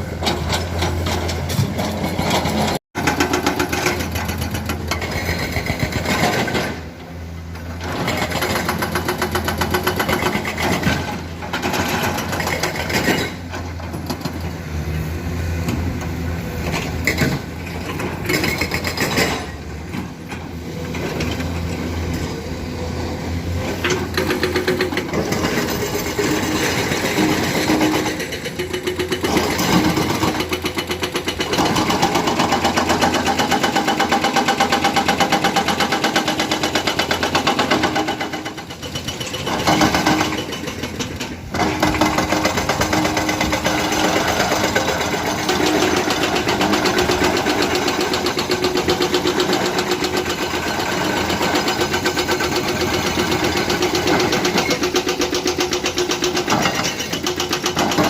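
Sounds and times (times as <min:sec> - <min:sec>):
heavy diesel engine clattering: 0:00.0 - 0:58.0.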